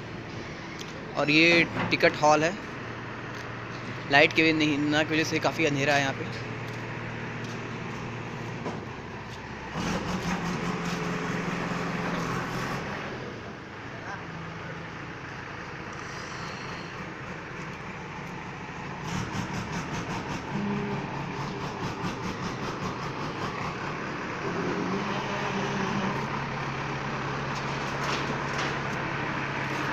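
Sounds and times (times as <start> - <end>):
vehicle engine humming: 0.0 - 29.9.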